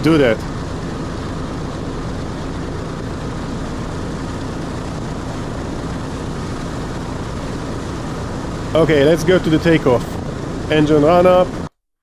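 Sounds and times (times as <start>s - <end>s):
propeller aircraft engines droning: 0.0s - 11.8s.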